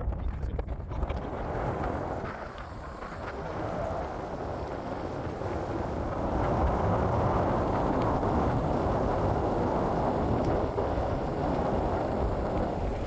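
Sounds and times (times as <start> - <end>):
land yacht rolling rumble: 0.0 - 13.0
wind buffeting microphone: 0.0 - 13.0.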